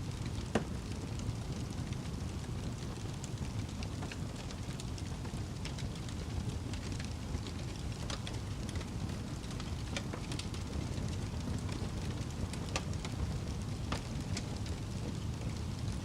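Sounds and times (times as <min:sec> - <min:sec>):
low rumble of burning: 0:00.0 - 0:16.0
wood fire snaps and pops: 0:00.0 - 0:16.0.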